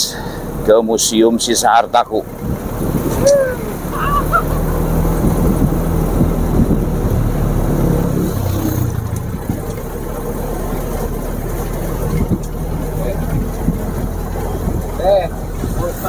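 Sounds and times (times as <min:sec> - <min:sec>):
jeep engine rumbling: 0:00.0 - 0:16.0.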